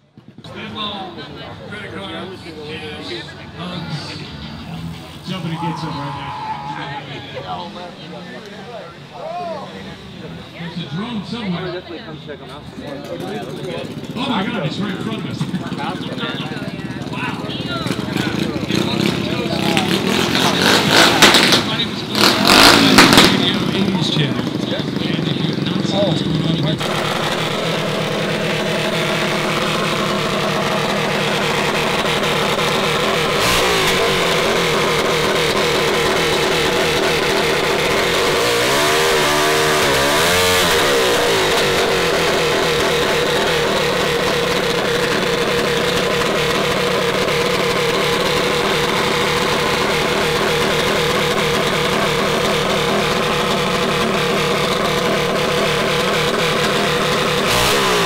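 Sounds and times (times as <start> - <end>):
small engines running: 0.0 - 58.0.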